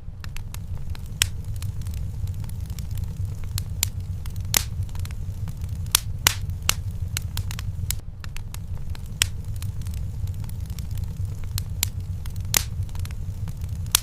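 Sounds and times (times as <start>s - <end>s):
fire low rumble: 0.0s - 14.0s
wood fire popping and snapping: 0.0s - 14.0s.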